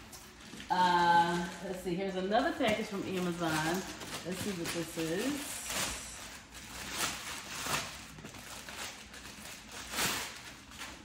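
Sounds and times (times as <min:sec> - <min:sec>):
plastic mailer bag crinkling: 0:00.0 - 0:11.0.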